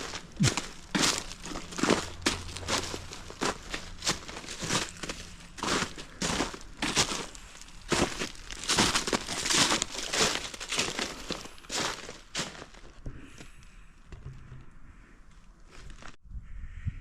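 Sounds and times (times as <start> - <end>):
footsteps crunching on trail: 0.0 - 14.6, 15.6 - 16.2.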